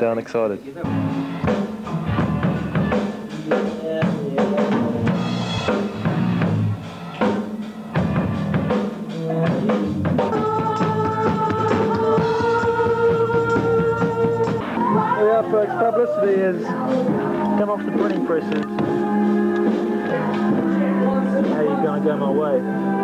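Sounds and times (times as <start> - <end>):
drum kit: 0.8 - 22.6.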